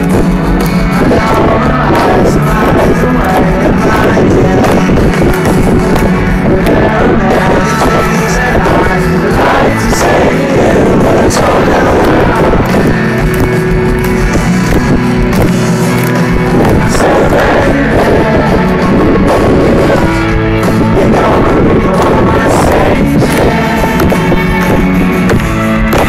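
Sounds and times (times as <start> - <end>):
live rock band with electric guitars: 0.0 - 26.0.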